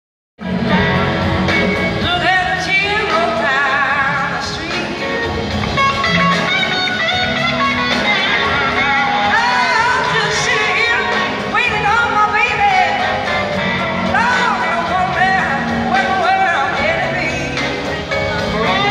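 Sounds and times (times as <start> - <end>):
bass and drums: 0.4 - 18.9
electric guitar: 0.4 - 18.9
person singing: 2.0 - 18.9.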